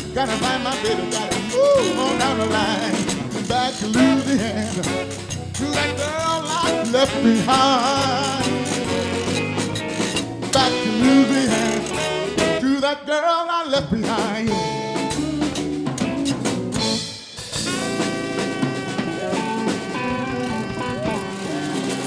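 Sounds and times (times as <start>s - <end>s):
steady drum beat: 0.0s - 12.6s, 13.8s - 22.0s
live band playing: 0.0s - 12.7s, 13.8s - 22.0s.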